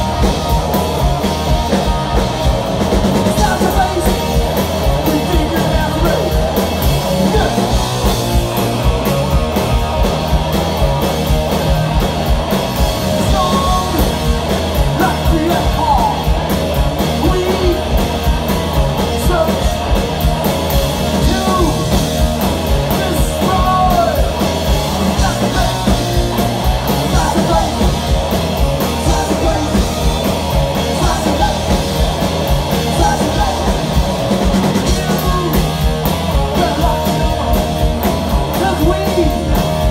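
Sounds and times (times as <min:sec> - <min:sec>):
bass guitar: 0:00.0 - 0:39.9
distorted electric guitar: 0:00.0 - 0:39.9
drum kit beat: 0:00.0 - 0:39.9.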